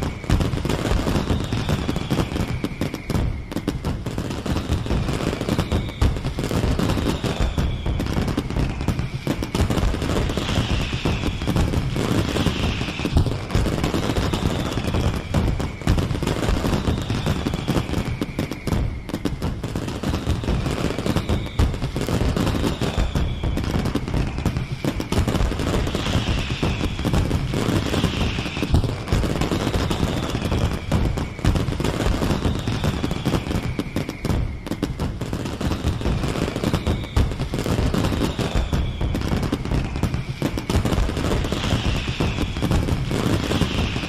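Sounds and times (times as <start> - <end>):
fireworks bangs and crackling: 0.0 - 44.0
whistling fireworks: 0.0 - 44.0.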